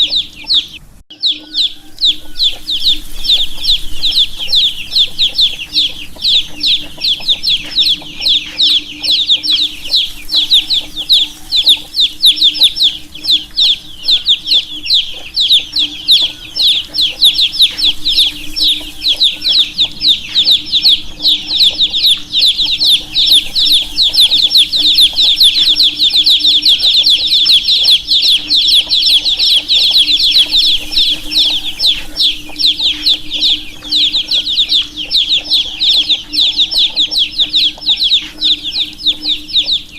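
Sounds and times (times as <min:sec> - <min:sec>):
baby chicks peeping: 0:00.0 - 0:39.9
faint steady hum: 0:00.0 - 0:39.9.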